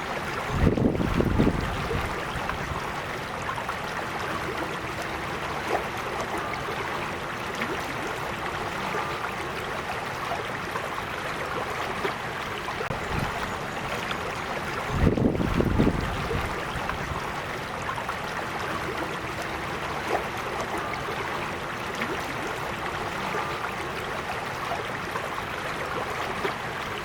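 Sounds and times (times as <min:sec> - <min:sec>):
creek babbling: 0:00.0 - 0:27.0.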